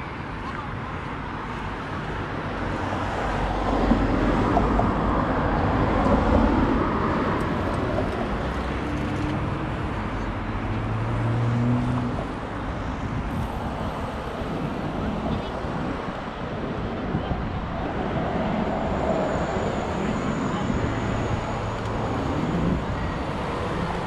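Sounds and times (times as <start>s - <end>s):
cars passing close by: 0.0s - 24.0s
low engine hum of passing vehicle: 2.7s - 24.0s.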